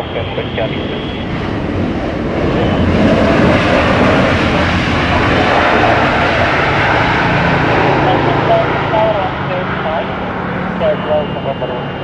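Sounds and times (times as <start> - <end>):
jet engines roaring on landing: 0.0 - 12.0.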